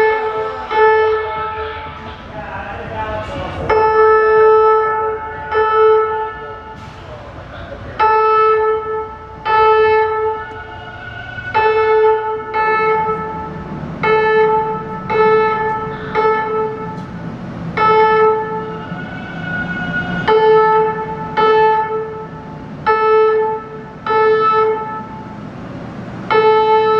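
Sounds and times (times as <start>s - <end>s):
train horn blasts: 0.0s - 6.9s, 8.0s - 25.4s, 26.3s - 26.9s
low rumble: 0.0s - 26.3s.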